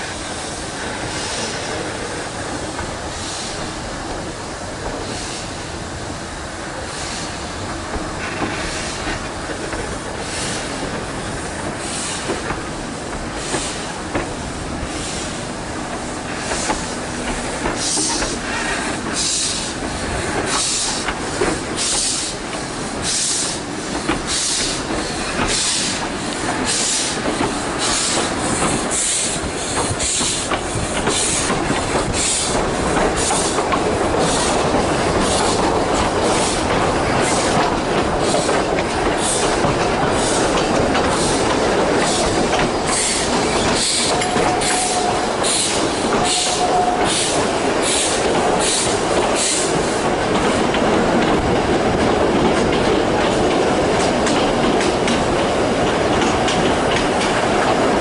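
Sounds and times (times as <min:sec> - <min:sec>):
train coaches clattering on track: 0:00.0 - 0:58.0
steam locomotive exhaust chuffs: 0:06.8 - 0:58.0.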